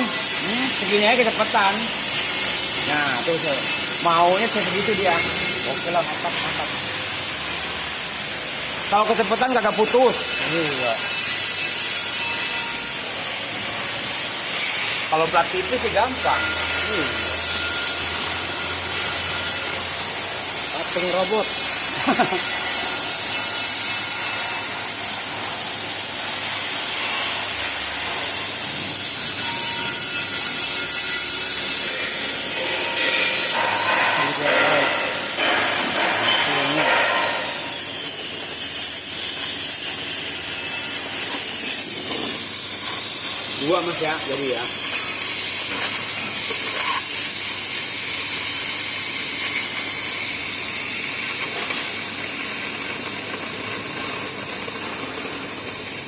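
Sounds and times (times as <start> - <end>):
cutting torch hissing: 0.0 - 56.0.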